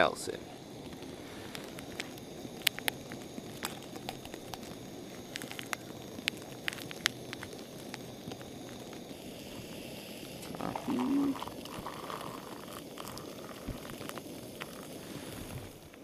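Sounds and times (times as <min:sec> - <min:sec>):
campfire crackling: 0:00.0 - 0:16.0
water bubbling in pot: 0:00.0 - 0:16.0.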